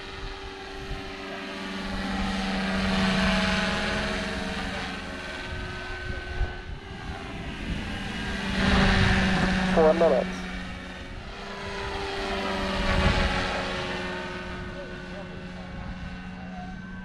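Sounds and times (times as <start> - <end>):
model helicopter humming and whining: 0.0 - 17.0.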